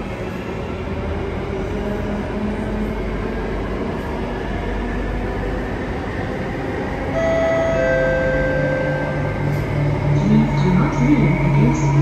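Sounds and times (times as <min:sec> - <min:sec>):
train wheels rumbling on rail: 0:00.0 - 0:12.0
faint train whine: 0:01.6 - 0:12.0.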